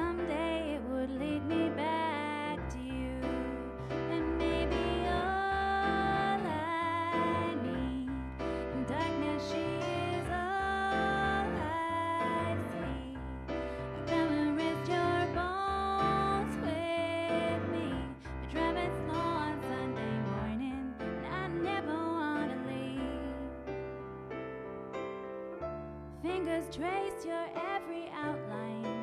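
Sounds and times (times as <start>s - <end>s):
woman singing: 0.0s - 23.6s, 26.2s - 29.0s
keyboard chords: 0.0s - 29.0s.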